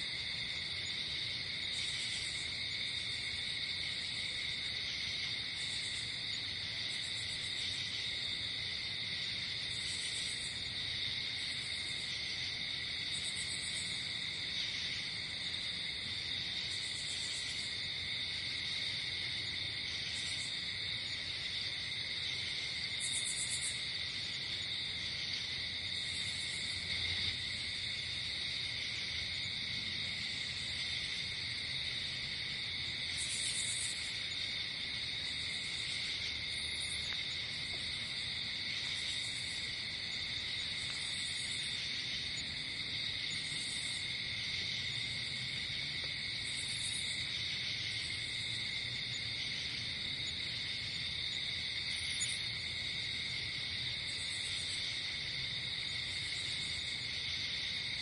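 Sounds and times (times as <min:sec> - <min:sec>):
crickets trilling: 0:00.0 - 0:58.0
insects buzzing chirps: 0:00.0 - 0:58.0.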